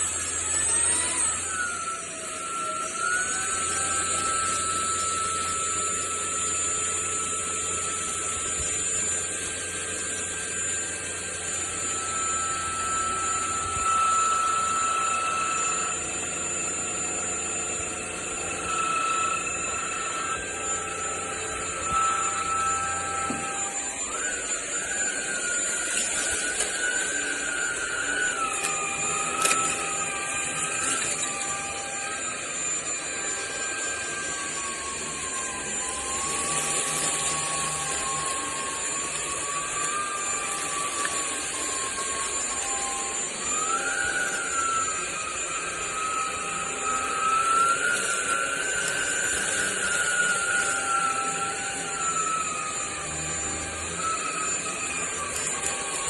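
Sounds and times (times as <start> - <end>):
vacuum cleaner motor whining: 0.0 - 56.0.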